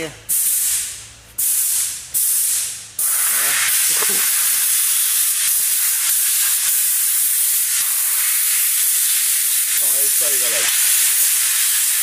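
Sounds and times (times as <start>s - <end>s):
hiss of rushing air: 0.3s - 12.0s.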